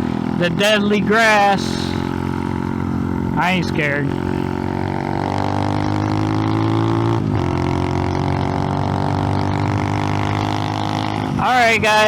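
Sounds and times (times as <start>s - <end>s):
mini bike engine droning: 0.0s - 12.0s.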